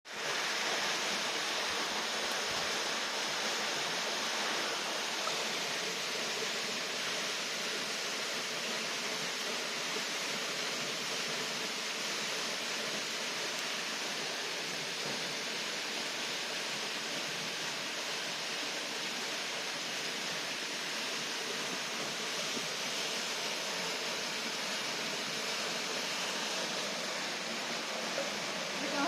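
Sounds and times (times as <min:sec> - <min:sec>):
water heating with rushing hiss: 0:00.1 - 0:29.0.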